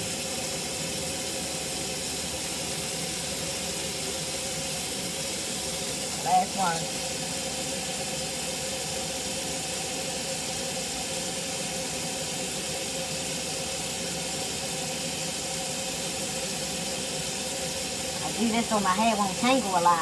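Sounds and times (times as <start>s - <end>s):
faucet water splashing into sink: 0.0s - 20.0s.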